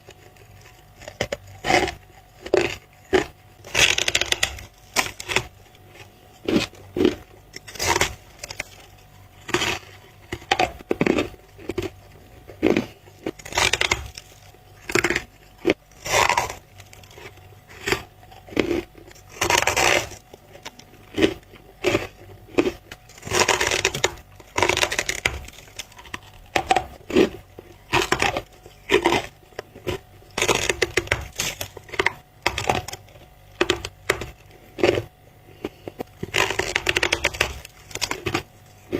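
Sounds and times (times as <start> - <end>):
crunching bites into frost: 0.1 - 38.9.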